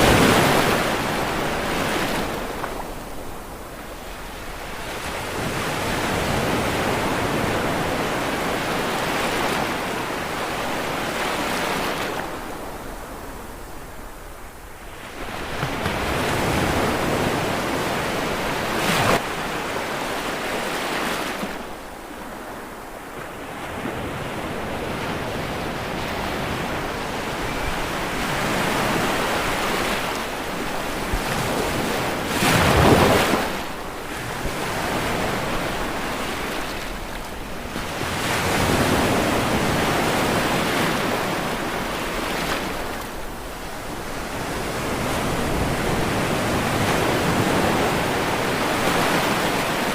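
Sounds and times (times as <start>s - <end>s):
sea waves breaking on shore: 0.0s - 13.8s, 14.8s - 49.9s.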